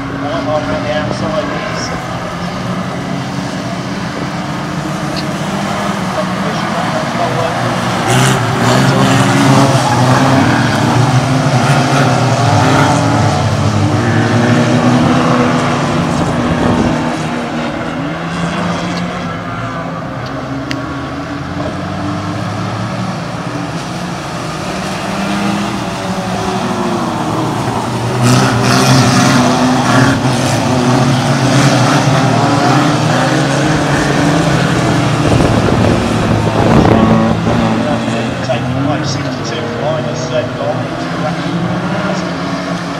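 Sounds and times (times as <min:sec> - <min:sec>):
racing car engines revving: 0:00.0 - 0:42.9.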